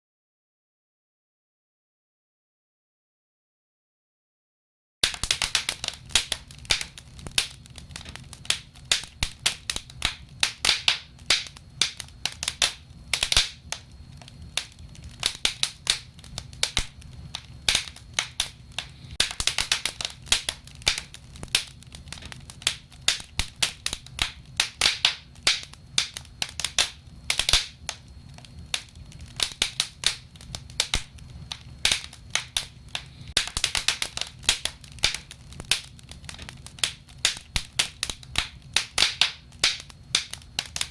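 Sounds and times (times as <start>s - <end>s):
hiss of burning logs: 5.0s - 40.9s
wood fire crackling and popping: 5.0s - 40.9s.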